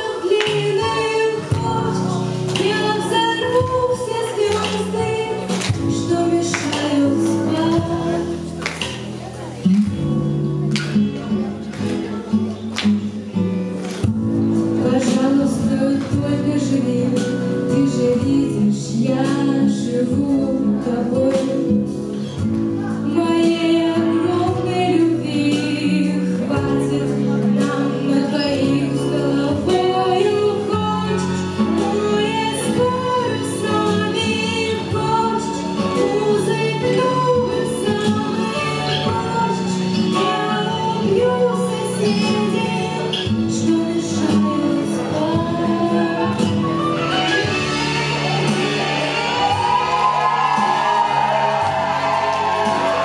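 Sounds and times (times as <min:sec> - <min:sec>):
girl singing pop song: 0:00.0 - 0:09.0, 0:14.5 - 0:50.2
instrumental backing track: 0:00.0 - 0:53.0.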